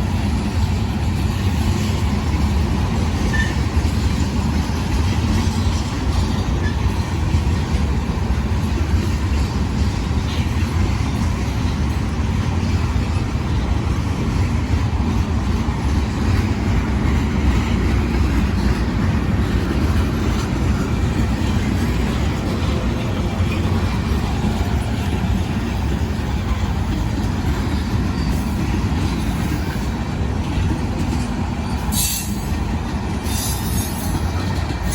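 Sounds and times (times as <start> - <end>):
freight train rumbling on rails: 0.0 - 34.9.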